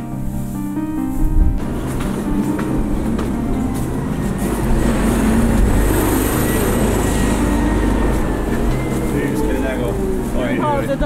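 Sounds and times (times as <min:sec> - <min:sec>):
vehicle engine running: 0:01.6 - 0:11.0.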